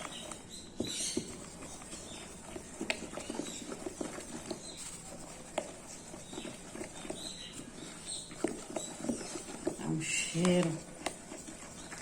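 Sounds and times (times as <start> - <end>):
spoon stirring batter in bowl: 0.0 - 12.0.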